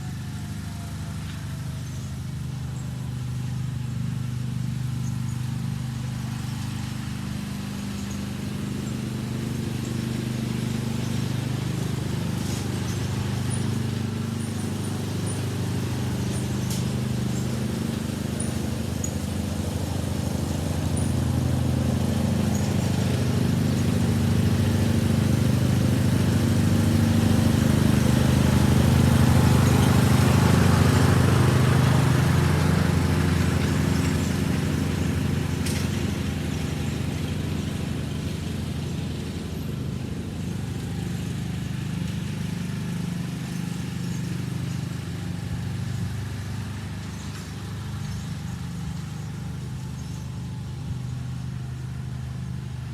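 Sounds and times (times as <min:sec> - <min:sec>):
riding lawn mower running: 0:00.0 - 0:52.9.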